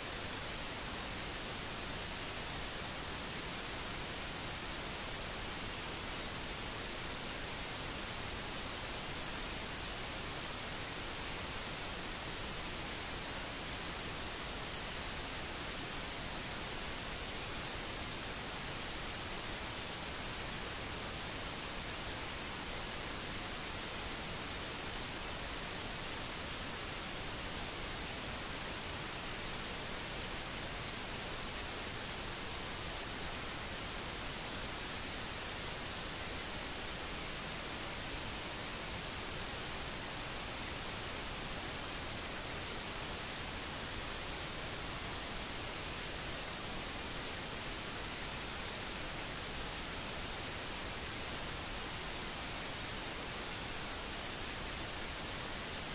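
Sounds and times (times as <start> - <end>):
static-like hiss: 0.0 - 55.9.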